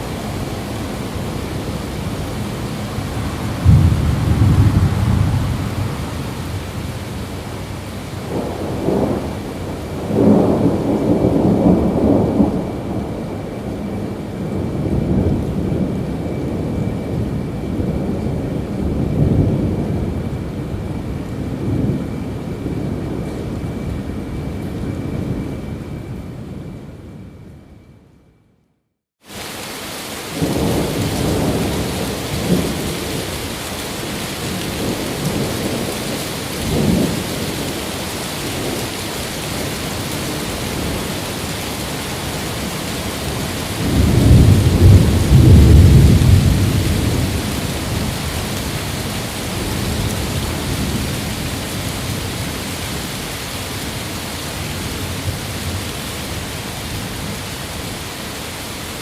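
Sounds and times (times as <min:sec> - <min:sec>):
heavy rain: 0:00.0 - 0:27.3, 0:29.2 - 0:59.0
rolling thunder: 0:00.0 - 0:28.0, 0:30.2 - 0:57.6.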